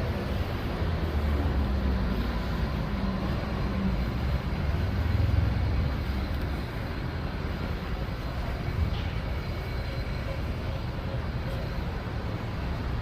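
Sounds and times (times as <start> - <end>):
vehicle rumbling in motion: 0.0 - 13.0.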